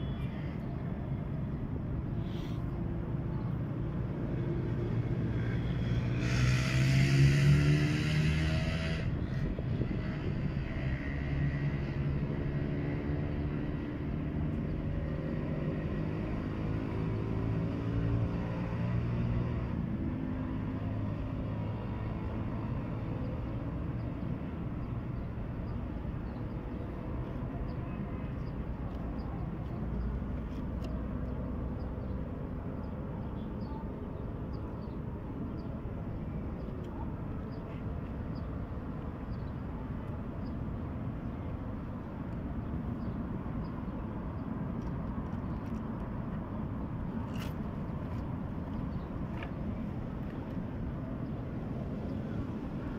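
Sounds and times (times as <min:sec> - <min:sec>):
low traffic rumble: 0:00.0 - 0:52.9.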